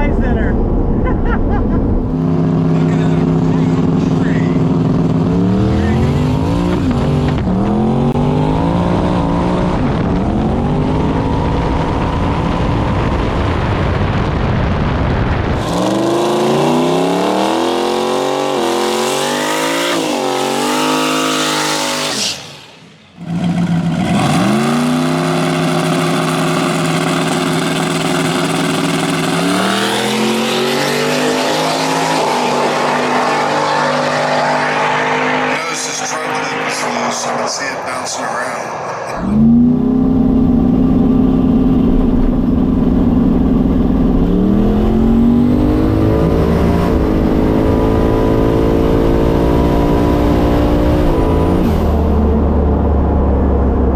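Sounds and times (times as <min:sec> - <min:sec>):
drag car engine revving: 0:01.9 - 0:14.2, 0:14.9 - 0:53.9.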